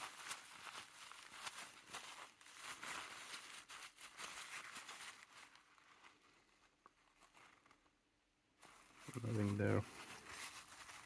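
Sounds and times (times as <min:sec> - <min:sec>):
paper rustling: 0:00.0 - 0:07.9, 0:08.6 - 0:11.0.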